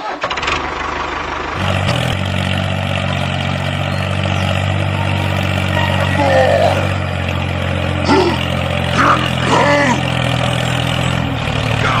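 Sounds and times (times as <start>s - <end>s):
low engine-like hum: 0.2s - 12.0s.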